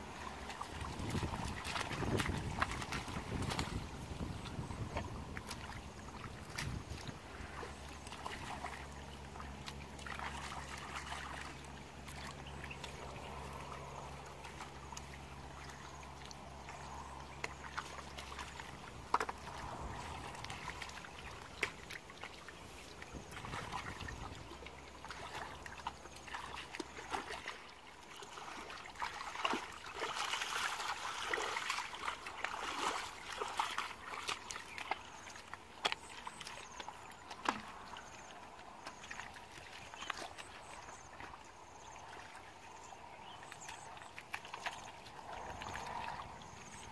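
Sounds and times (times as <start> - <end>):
low steady hum: 0.0 - 46.9
muddy water sloshing and splashing: 0.0 - 46.9.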